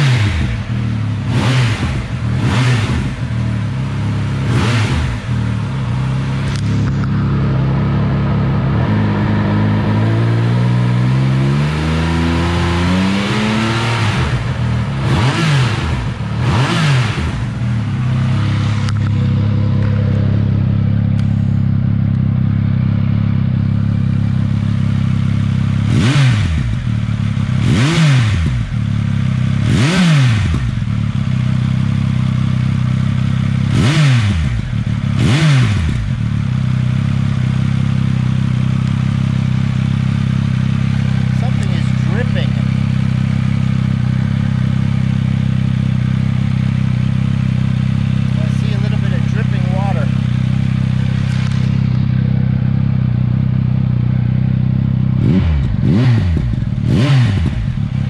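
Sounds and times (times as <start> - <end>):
engine throttle blips: 0.0 - 58.0
motorcycle engine idling: 0.0 - 58.0.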